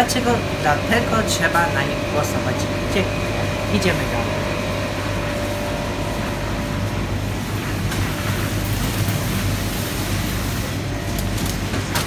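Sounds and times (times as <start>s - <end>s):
refrigerated cases humming: 0.0s - 12.0s.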